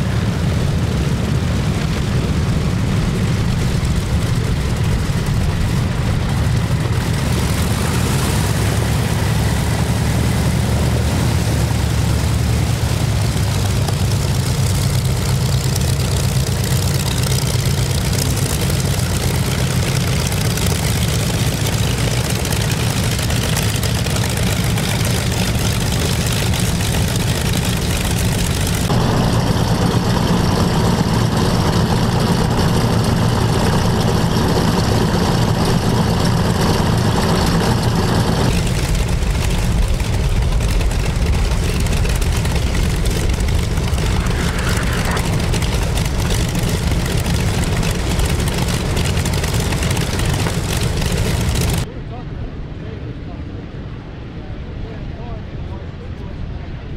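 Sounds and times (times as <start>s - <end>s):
aircraft engines idling: 0.0s - 52.0s.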